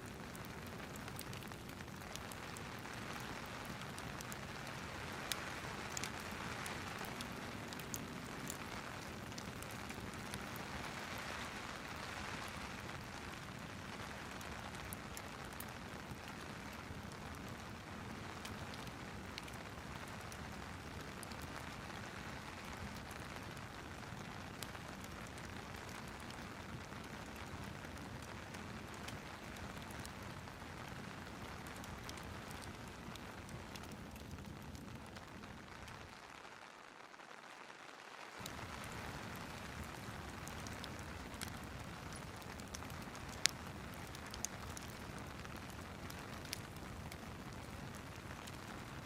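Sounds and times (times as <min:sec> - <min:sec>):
rain falling: 0:00.0 - 0:49.0
wood fire crackling: 0:00.0 - 0:49.0.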